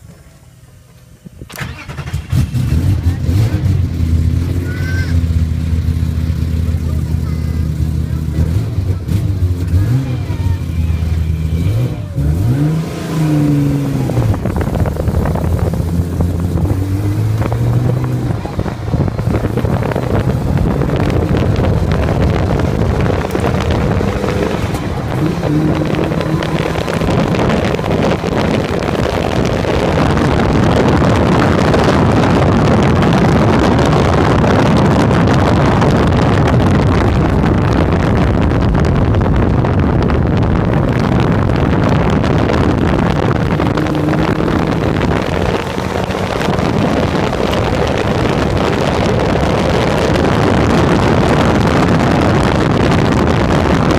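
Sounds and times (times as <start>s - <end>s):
racing car engine: 0.0s - 53.9s
wind rush on microphone: 1.2s - 53.9s.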